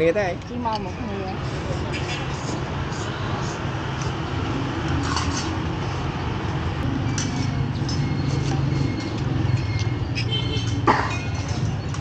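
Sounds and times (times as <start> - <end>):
street market din: 0.0 - 12.0.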